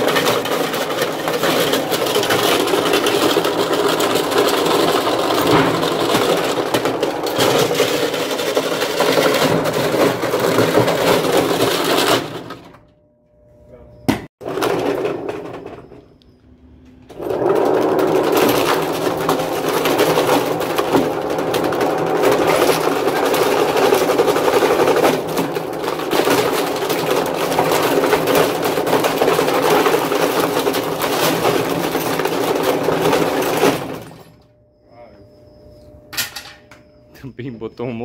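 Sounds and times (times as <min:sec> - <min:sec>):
washing machine rattling: 0:00.0 - 0:12.9, 0:14.4 - 0:16.1, 0:17.1 - 0:34.5.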